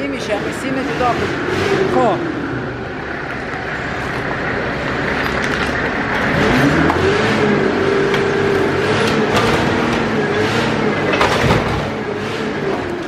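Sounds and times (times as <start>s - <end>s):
forklift engine revving: 0.0s - 13.0s.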